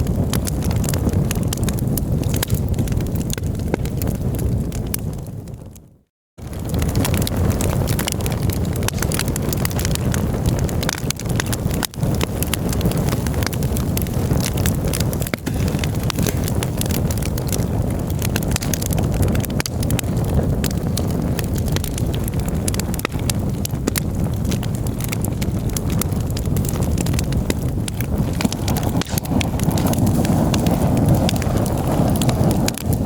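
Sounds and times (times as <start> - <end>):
campfire crackling and popping: 0.0 - 33.0
low fire rumble: 0.0 - 33.0.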